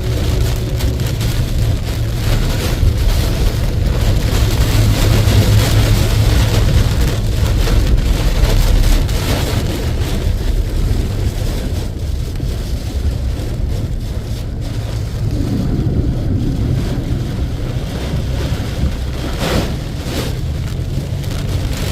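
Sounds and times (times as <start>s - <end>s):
heavy rain pouring: 0.0s - 21.9s
wind rumble on microphone: 0.0s - 21.9s.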